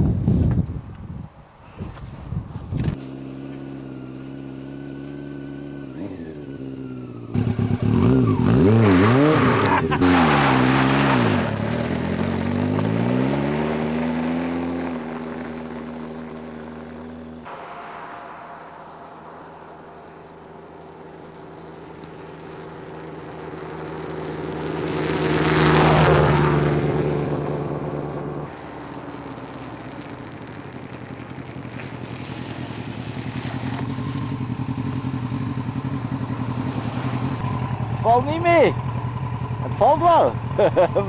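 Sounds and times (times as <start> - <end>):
motorcycle engine approaching: 2.8 - 41.0
vehicle passing by: 3.0 - 40.3.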